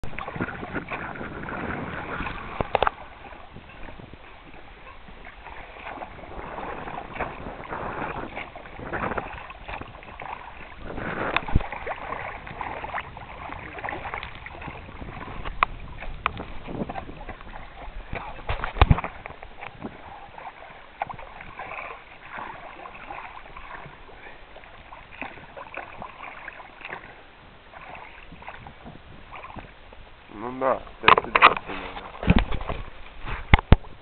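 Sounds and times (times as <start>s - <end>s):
oars splashing through water: 0.0s - 34.0s.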